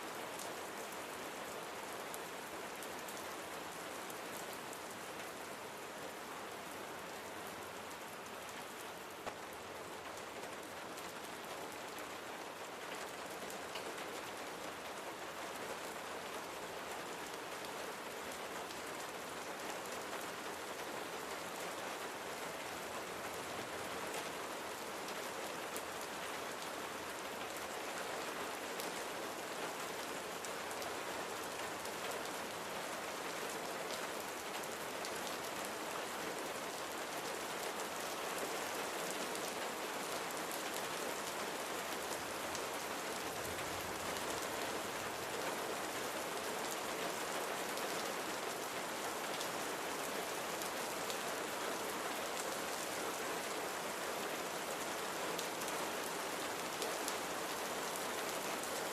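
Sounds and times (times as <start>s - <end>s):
rain drops ticking on a surface: 0.0s - 58.9s.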